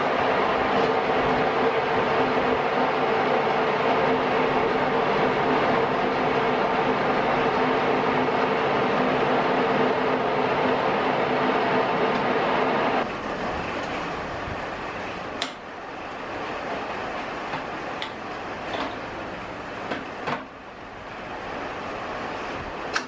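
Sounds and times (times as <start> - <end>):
lathe humming: 0.0 - 23.0.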